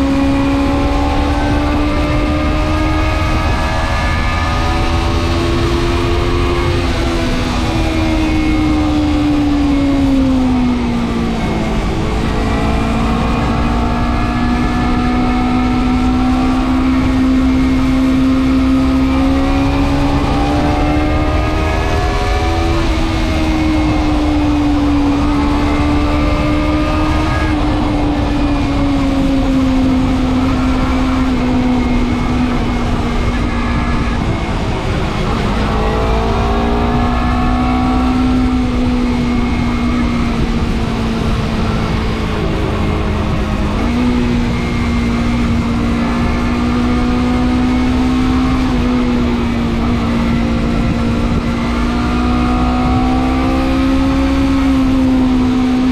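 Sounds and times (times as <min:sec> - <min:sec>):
motorcycle engine running: 0:00.0 - 0:55.9
wind noise: 0:00.0 - 0:55.9.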